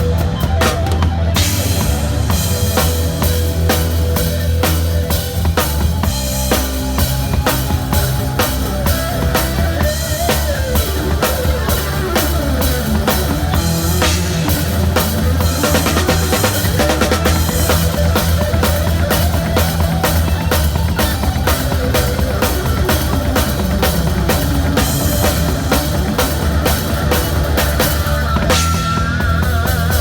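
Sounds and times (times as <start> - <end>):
drum kit beat: 0.0 - 30.0
live band music: 0.0 - 30.0
sustained bass line: 0.0 - 30.0.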